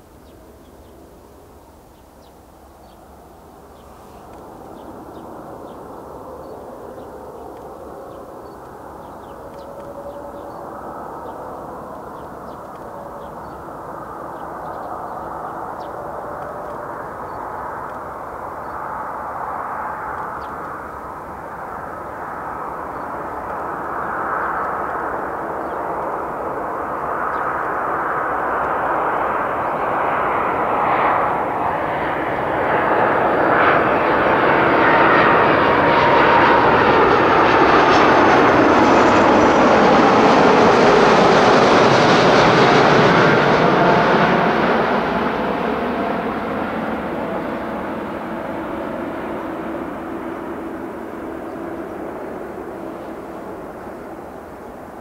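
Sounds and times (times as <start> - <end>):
jet airliner flying overhead: 0.0 - 55.0.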